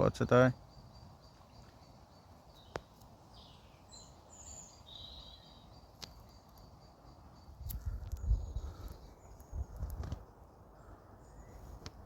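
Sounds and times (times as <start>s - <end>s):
bird chirps: 0.0s - 10.0s
faint outdoor ambience: 0.0s - 12.0s.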